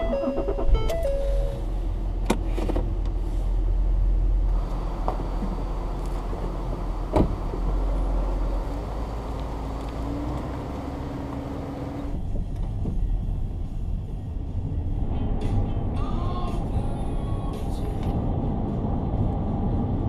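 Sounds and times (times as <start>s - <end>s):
vehicle engine low rumble: 0.0s - 20.0s.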